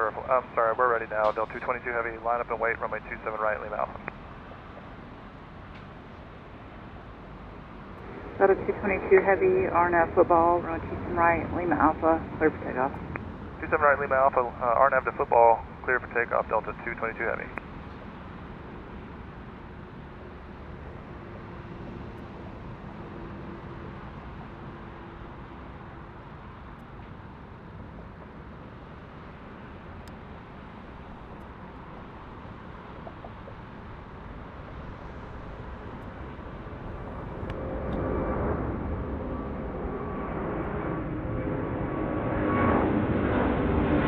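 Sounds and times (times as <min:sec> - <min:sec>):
distant jet engine rushing: 0:00.0 - 0:44.0.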